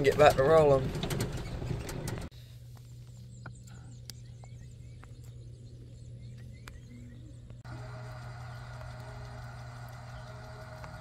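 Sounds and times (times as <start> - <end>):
steady low hum: 0.8 - 11.0.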